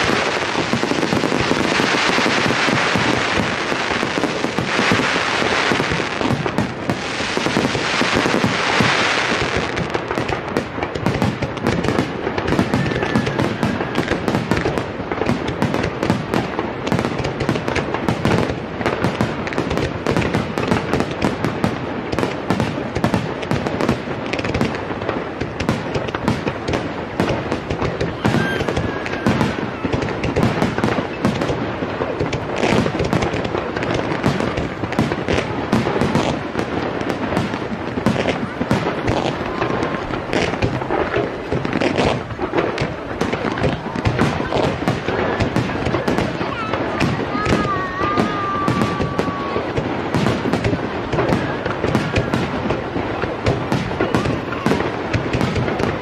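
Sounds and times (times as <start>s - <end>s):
fireworks bursting: 0.0s - 56.0s
hissing crackle: 0.0s - 56.0s.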